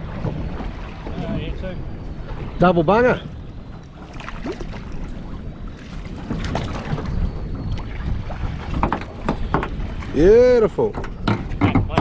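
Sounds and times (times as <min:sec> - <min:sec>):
water slapping boat hull: 0:00.0 - 0:12.0
wind buffeting microphone: 0:00.0 - 0:12.0.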